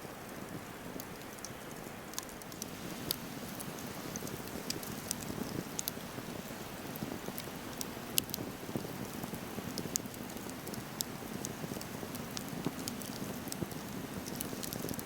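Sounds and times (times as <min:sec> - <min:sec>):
campfire flames rushing: 0:00.2 - 0:15.0
fire crackling and popping: 0:00.2 - 0:15.0.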